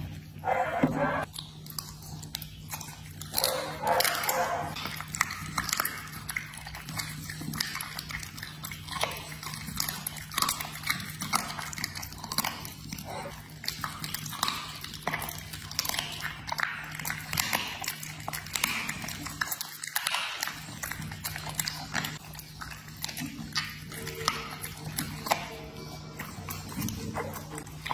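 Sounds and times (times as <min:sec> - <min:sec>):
dog licking and chewing meat: 0:00.0 - 0:27.9.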